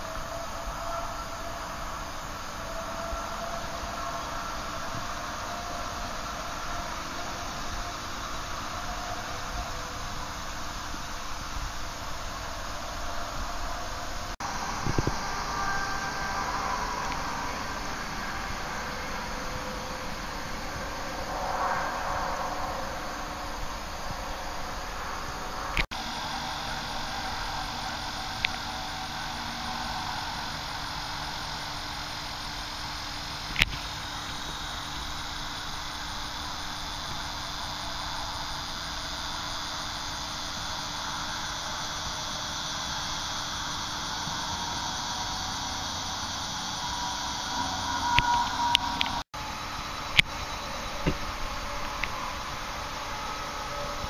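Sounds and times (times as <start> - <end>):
background hiss and hum: 0.0 - 54.0
faint high steady tones: 0.0 - 54.0.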